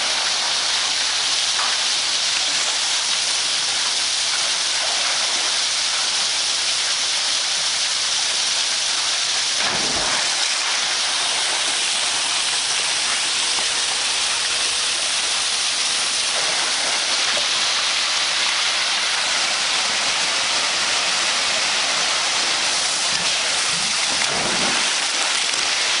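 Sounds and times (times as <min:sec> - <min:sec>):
water splashing into pool: 0:00.0 - 0:26.0.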